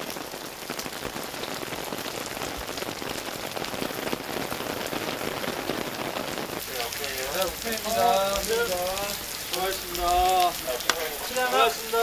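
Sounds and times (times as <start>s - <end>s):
heavy rain on wet ground: 0.0s - 12.0s.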